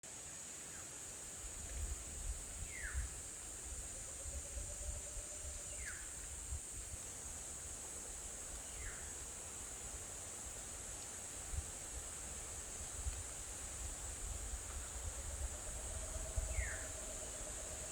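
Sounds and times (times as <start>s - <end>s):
high insect drone: 0.1s - 17.9s.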